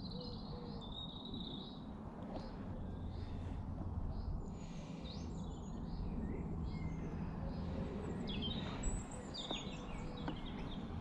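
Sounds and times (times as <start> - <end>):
low outdoor background hum: 0.0 - 11.0
small birds chirping: 0.0 - 11.0.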